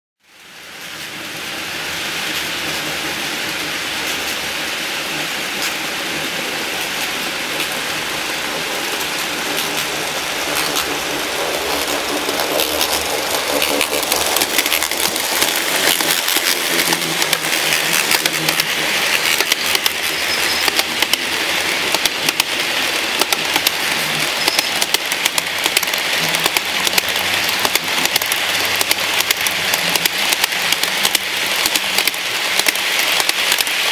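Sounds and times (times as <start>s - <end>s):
model train rattling on track: 0.3s - 33.9s.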